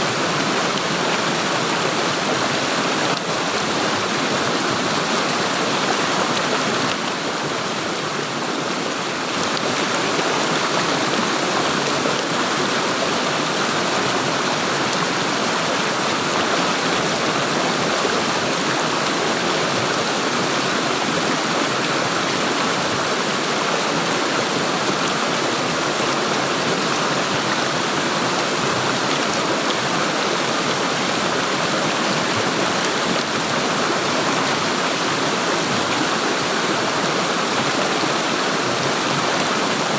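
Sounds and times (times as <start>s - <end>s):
water gurgling and rushing: 0.0s - 39.9s.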